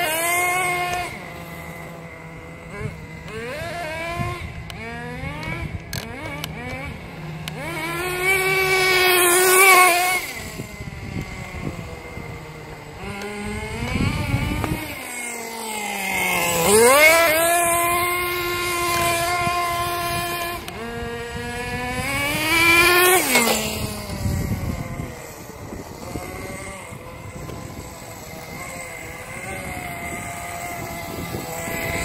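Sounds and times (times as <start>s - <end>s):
radio-controlled car motor revving: 0.0s - 32.0s.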